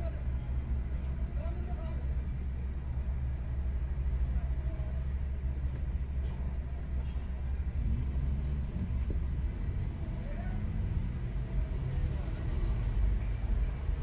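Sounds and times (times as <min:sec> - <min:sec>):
car idling rumble: 0:00.0 - 0:14.0.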